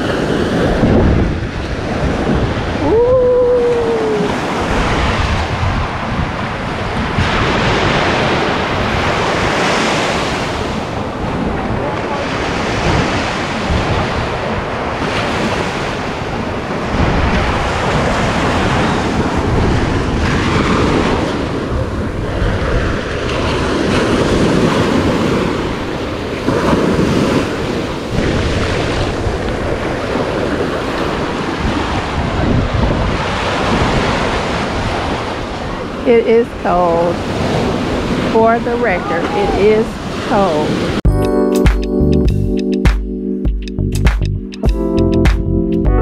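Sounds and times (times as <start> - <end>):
wind on microphone: 0.0 - 41.1
surf breaking on sand: 3.6 - 41.0.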